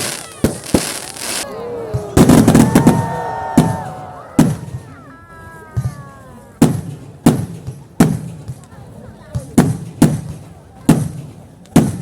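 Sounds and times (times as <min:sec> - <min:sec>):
fireworks exploding: 0:00.0 - 0:05.0, 0:05.8 - 0:12.0.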